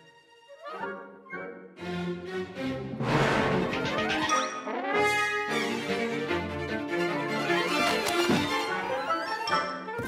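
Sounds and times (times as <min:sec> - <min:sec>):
orchestral strings: 0:00.0 - 0:09.9.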